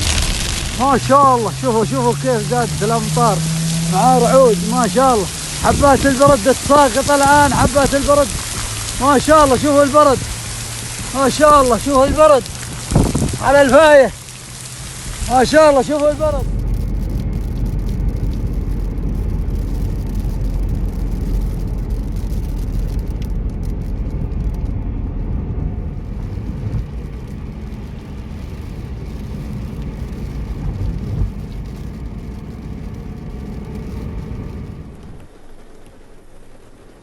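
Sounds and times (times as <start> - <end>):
car running low rumble: 0.0 - 37.0
rain spattering: 0.0 - 37.0.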